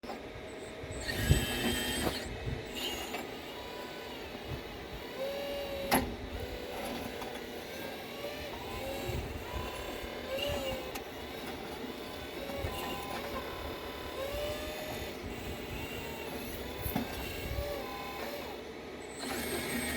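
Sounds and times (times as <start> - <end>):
toy excavator mechanical whine: 0.1 - 19.9.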